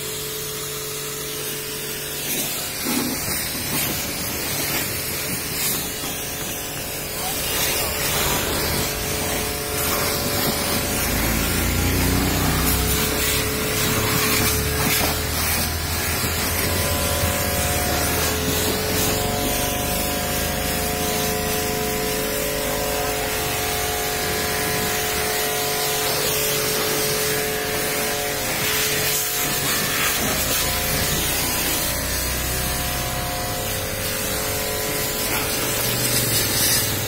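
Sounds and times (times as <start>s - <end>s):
pressure washer jet hissing: 0.0s - 37.0s
steady hum: 0.5s - 31.2s.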